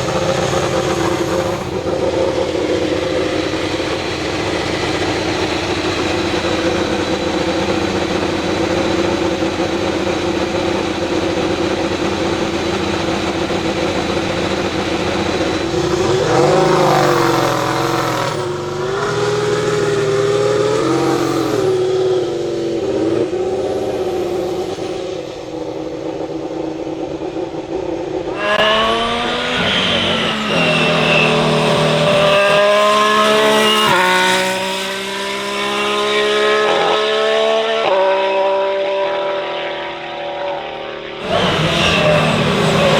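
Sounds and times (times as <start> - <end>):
racing car engine revving: 0.0 - 42.9.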